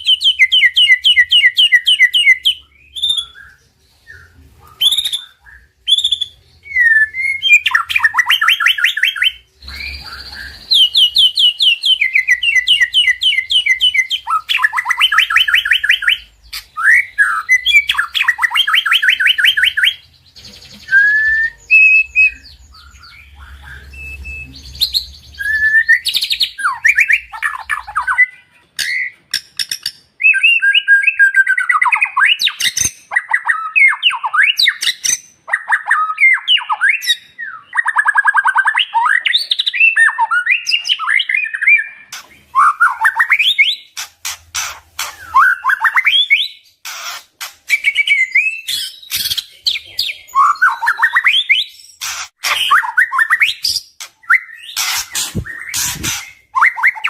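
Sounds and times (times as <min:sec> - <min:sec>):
bird singing whistled phrases: 0:00.0 - 0:29.2, 0:30.2 - 0:43.9, 0:45.0 - 0:46.7, 0:47.7 - 0:57.0.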